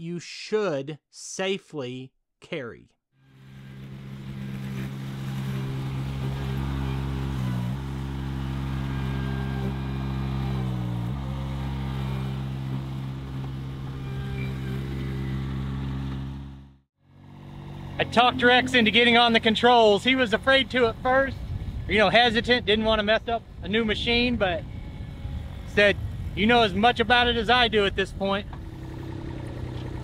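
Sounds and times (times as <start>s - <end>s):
diesel engine running: 3.2s - 30.0s.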